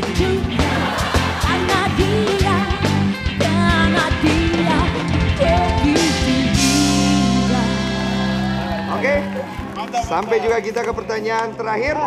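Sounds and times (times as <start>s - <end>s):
band music with drum beat: 0.0s - 12.0s.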